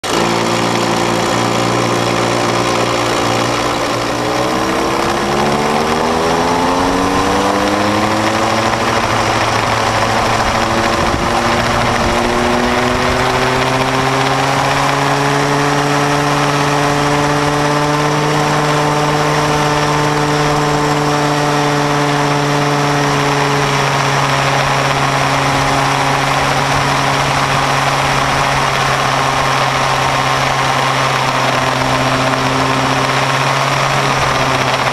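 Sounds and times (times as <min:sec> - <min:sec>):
go-kart two-stroke engine: 0:00.0 - 0:34.9.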